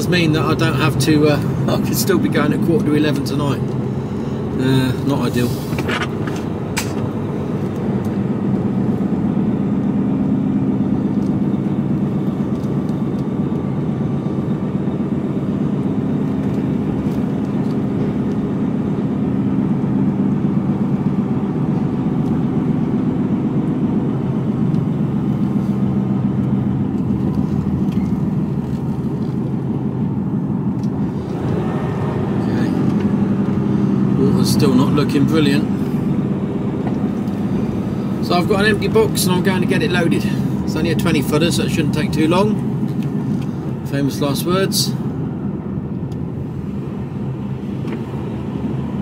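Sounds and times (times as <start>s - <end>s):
diesel engine running: 0.0s - 49.0s
road noise: 0.0s - 49.0s.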